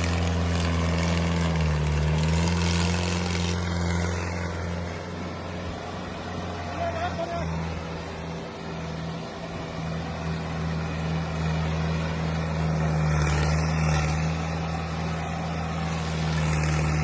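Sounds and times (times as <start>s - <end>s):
tractor diesel engine drone: 0.0s - 17.0s.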